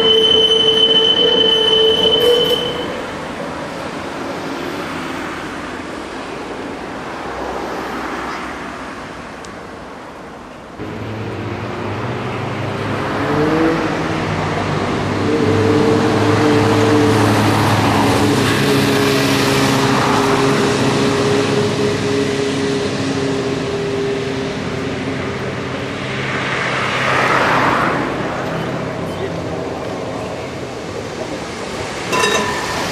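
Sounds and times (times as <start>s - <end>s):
road traffic noise: 0.0s - 32.9s.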